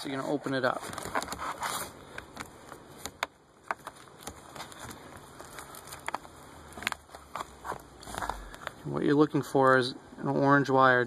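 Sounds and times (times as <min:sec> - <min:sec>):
rustling: 0:00.0 - 0:08.9.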